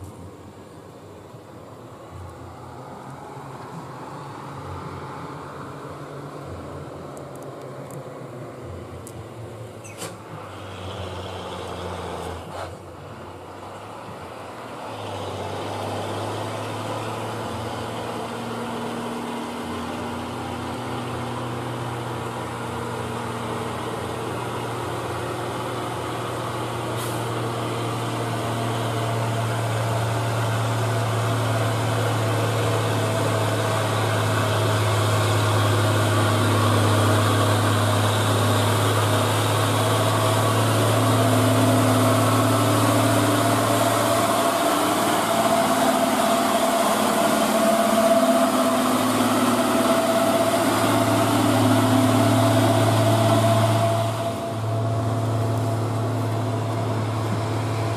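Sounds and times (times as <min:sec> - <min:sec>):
truck diesel engine pulling uphill: 0:00.0 - 0:57.9.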